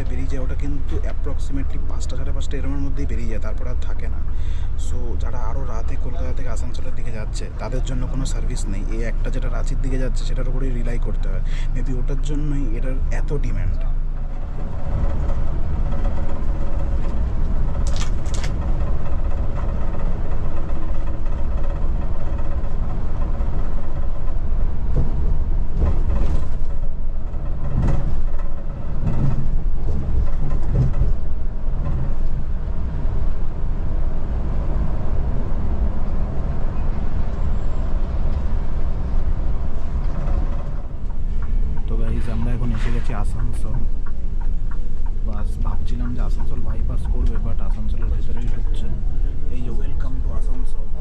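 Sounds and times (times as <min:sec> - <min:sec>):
coach engine drone: 0:00.0 - 0:51.0
road rumble: 0:00.0 - 0:51.0.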